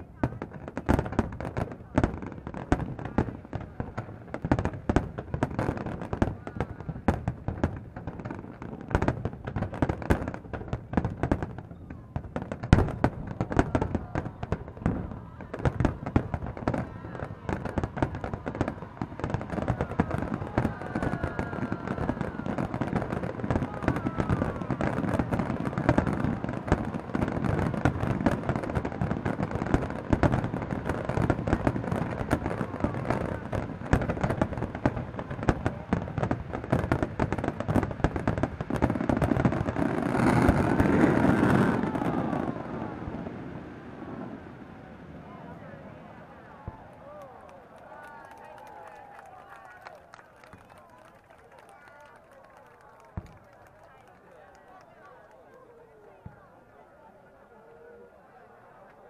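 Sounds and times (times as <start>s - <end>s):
fireworks bangs and crackling: 0.0s - 56.6s.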